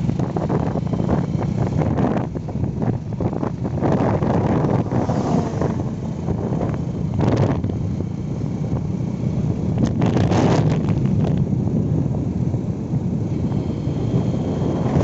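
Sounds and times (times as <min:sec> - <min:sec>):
low rumble of road vehicles: 0:00.0 - 0:15.0
wind blowing on microphone: 0:00.0 - 0:15.0.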